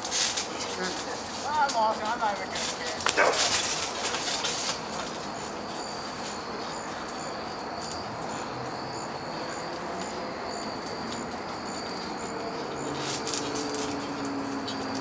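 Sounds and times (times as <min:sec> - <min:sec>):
high insect chirp: 0:00.0 - 0:15.0
insects trilling: 0:00.0 - 0:15.0.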